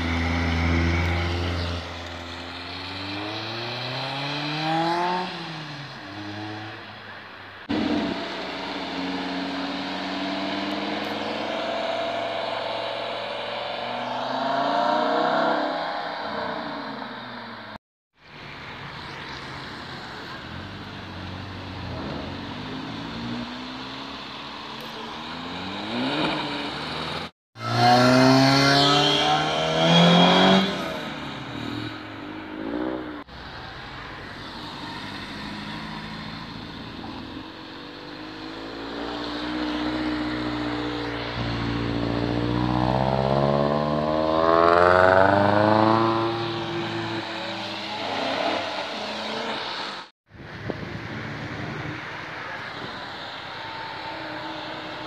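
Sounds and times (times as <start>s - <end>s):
car engines accelerating hard: 0.0s - 6.9s, 7.6s - 17.7s, 19.3s - 50.1s, 50.9s - 55.0s.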